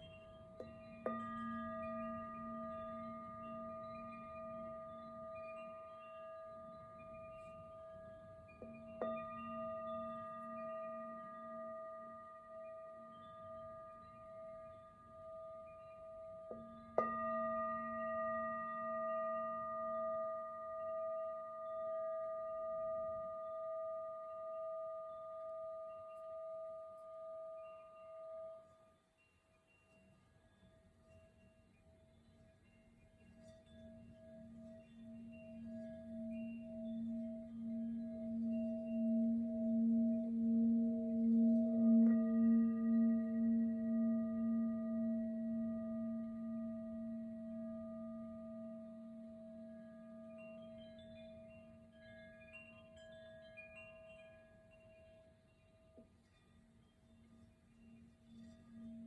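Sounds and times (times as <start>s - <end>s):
singing bowl ringing: 0.0s - 59.0s.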